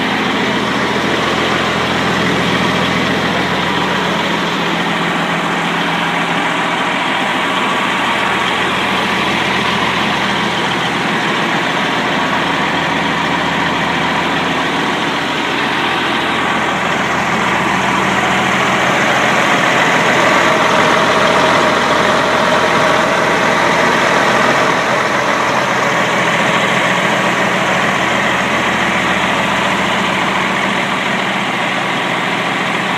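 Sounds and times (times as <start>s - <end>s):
diesel truck engine idling: 0.0s - 32.9s.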